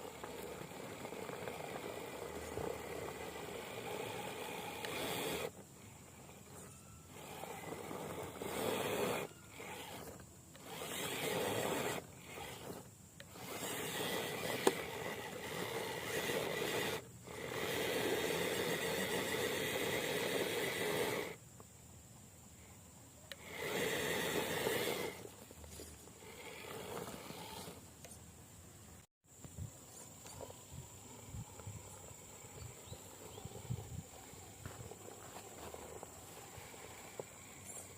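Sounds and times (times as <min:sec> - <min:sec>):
toy truck electric motor whining: 0:00.0 - 0:21.4, 0:23.3 - 0:28.2, 0:30.1 - 0:37.9.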